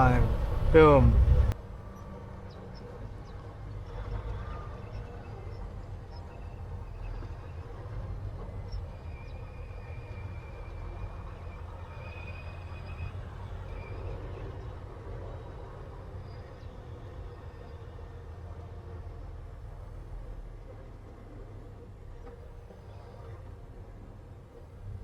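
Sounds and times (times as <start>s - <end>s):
truck diesel engine rumble: 0.0s - 25.0s.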